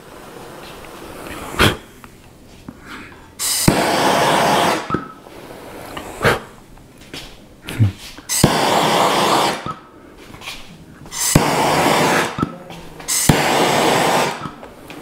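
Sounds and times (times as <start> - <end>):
torch flame hissing: 0.0 - 2.0, 3.4 - 6.6, 8.2 - 15.0.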